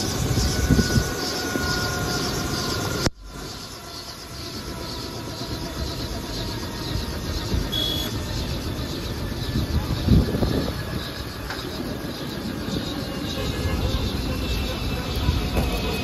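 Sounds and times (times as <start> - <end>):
helicopter rotor pulsing whoosh: 0.0 - 16.0.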